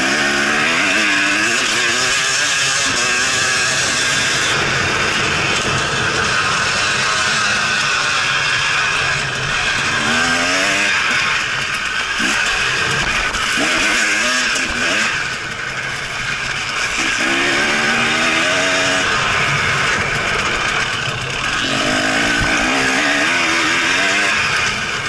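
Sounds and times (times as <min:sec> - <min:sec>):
motorcycle engine accelerating: 0:00.0 - 0:25.0
wind rush and track noise: 0:00.1 - 0:25.0.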